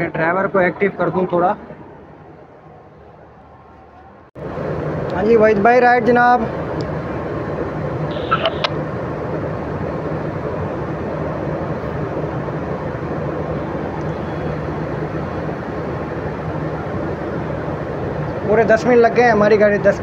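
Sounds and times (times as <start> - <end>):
train rumble and hum: 0.0 - 20.0.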